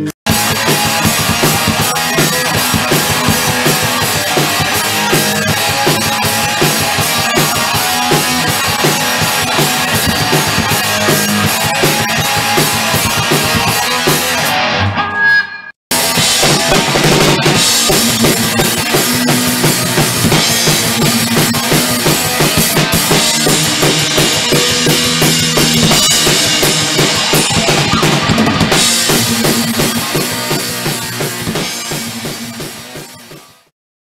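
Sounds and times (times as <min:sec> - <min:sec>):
drum kit pounding: 0:00.0 - 0:14.8, 0:15.9 - 0:33.7
distorted electric guitar riff: 0:00.0 - 0:33.7.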